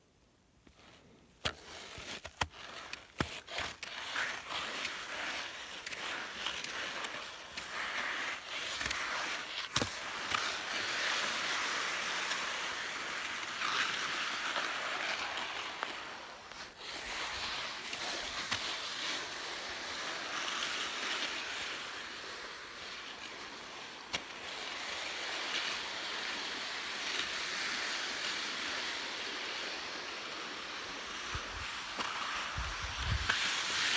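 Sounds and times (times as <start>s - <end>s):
skis scraping over snow: 0.6s - 33.9s.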